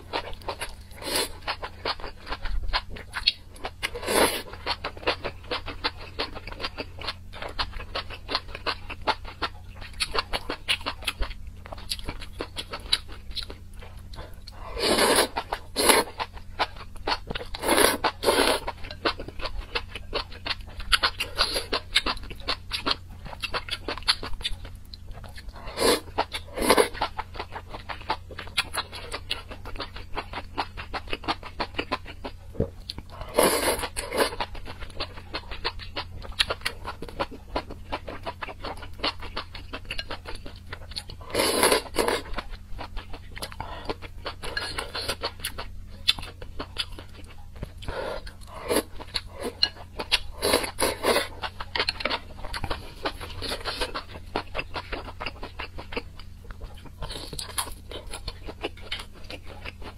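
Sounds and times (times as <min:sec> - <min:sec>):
chewing and slurping noodles: 0:00.0 - 0:59.9.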